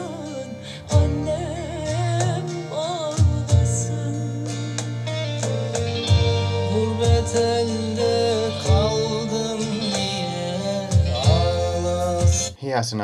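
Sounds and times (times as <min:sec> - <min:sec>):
woman singing with vibrato: 0:00.0 - 0:04.8, 0:06.0 - 0:12.2
low bass line: 0:00.0 - 0:12.5.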